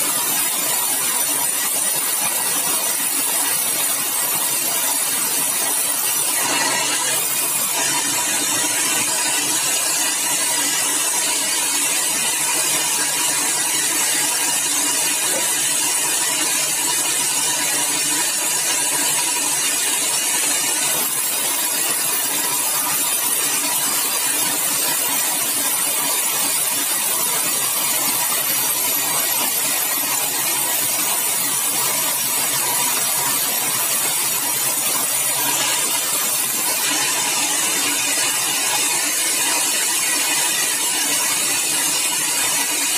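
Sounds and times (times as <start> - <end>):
sawmill saw cutting log: 0.0 - 42.9.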